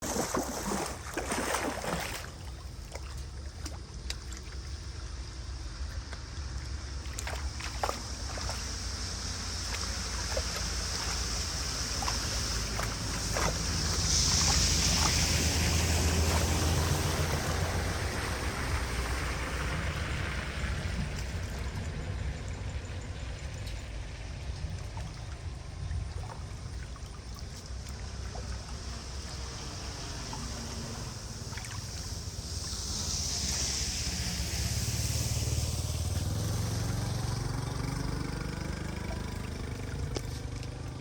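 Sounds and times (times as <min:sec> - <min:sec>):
low steady rumble: 0:00.0 - 0:41.0
water rushing and splashing: 0:00.0 - 0:41.0.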